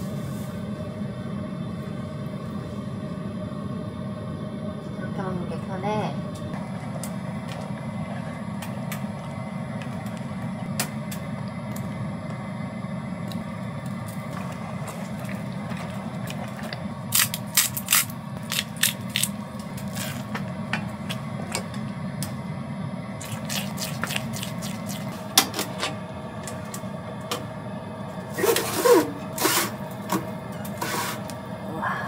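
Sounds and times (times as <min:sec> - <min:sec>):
low hum: 0:00.0 - 0:32.0.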